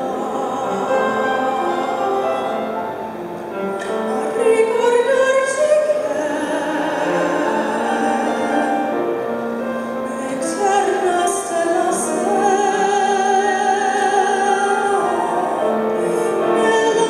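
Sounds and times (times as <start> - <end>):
woman singing: 0.0 - 2.2, 3.8 - 8.9, 10.1 - 17.0
grand piano: 0.0 - 17.0.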